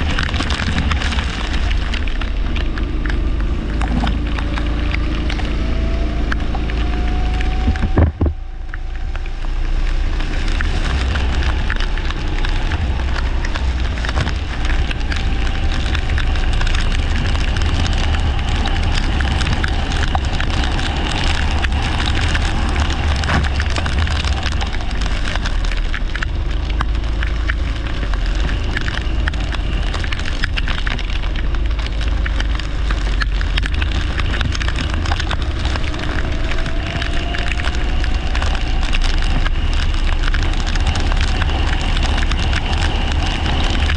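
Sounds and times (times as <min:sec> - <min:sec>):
rain crackling: 0:00.0 - 0:43.9
wind rumble on microphone: 0:00.0 - 0:43.9.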